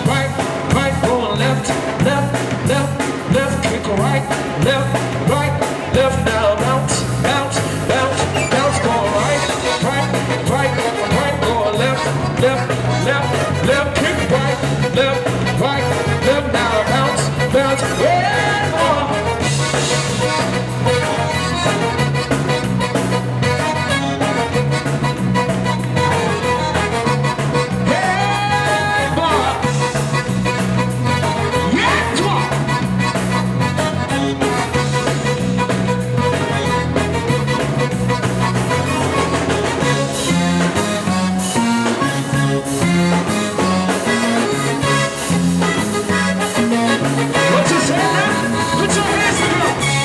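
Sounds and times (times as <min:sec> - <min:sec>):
bass line: 0:00.0 - 0:50.0
zydeco band playing: 0:00.0 - 0:50.0.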